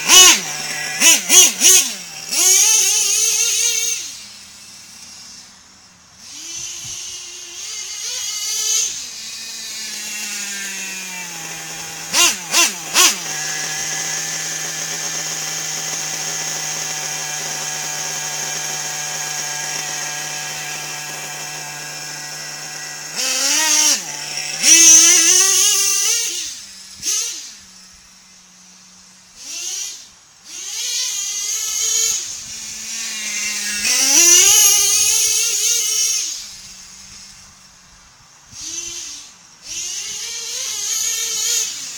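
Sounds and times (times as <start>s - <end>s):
small nitro engine revving: 0.0s - 41.9s.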